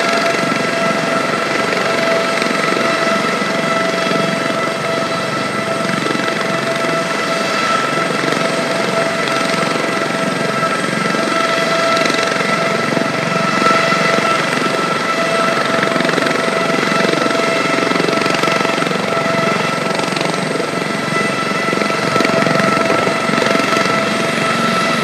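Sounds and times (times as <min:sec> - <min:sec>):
helicopter rotor and engine noise: 0:00.0 - 0:25.0
helicopter turbine whine: 0:00.0 - 0:25.0.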